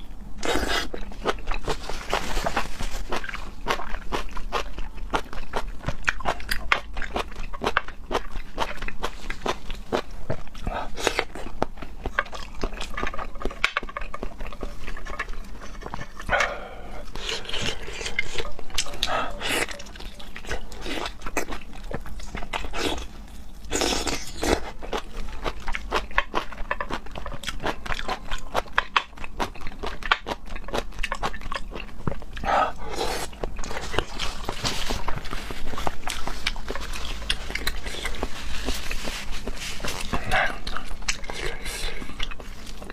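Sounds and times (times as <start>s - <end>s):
wet chewing with mouth clicks: 0.4s - 42.9s.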